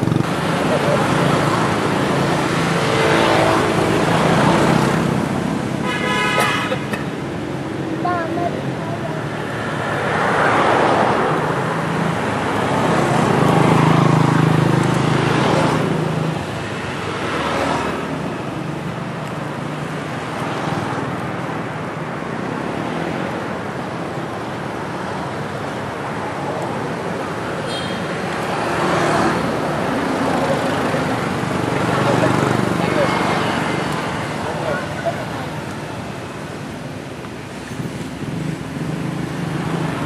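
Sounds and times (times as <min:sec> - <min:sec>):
steady traffic noise: 0:00.0 - 0:40.0.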